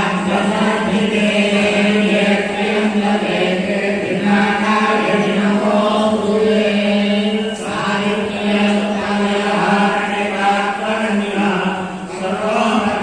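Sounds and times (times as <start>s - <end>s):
group of voices chanting: 0.0s - 13.0s.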